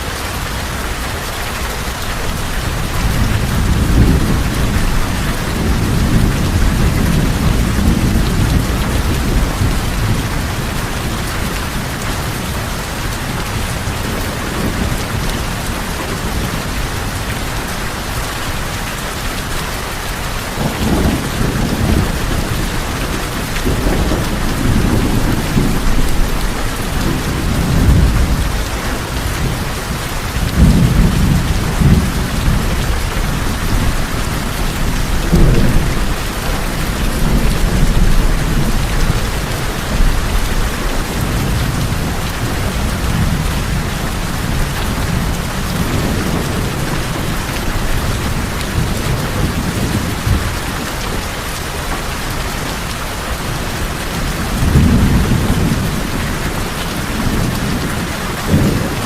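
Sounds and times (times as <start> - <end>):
heavy rain on tin roofs: 0.0 - 59.0.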